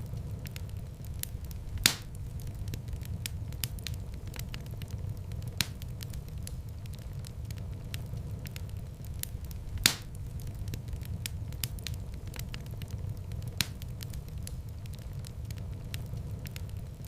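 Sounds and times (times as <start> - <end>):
loud fire pops: 0.0 - 17.0
low rumble of flames: 0.0 - 17.0
wood fire crackling: 0.0 - 17.0.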